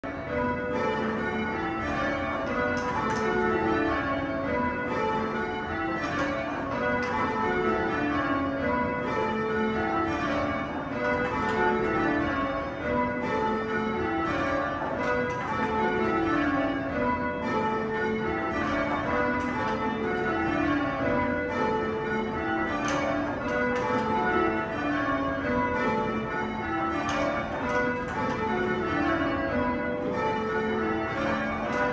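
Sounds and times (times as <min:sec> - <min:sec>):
church bells ringing: 0:00.0 - 0:31.9.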